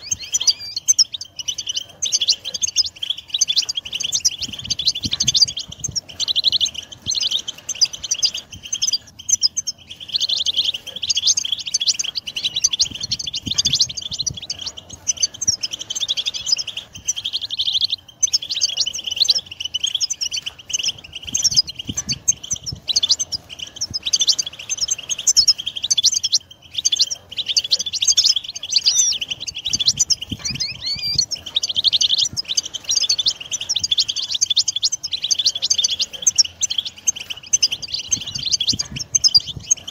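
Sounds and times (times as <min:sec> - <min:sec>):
finch twittering and trills: 0:00.0 - 0:39.9.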